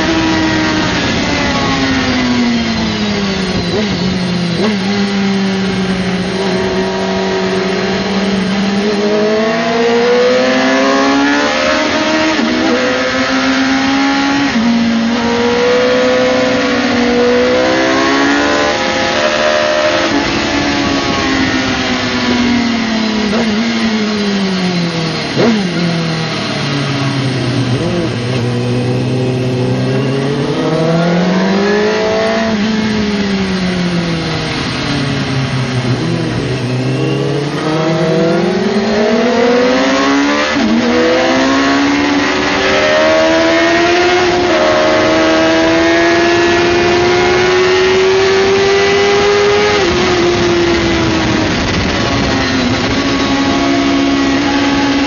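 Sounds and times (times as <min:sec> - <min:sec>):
motorcycle engine revving: 0:00.0 - 0:55.0
rushing wind noise: 0:00.0 - 0:55.0.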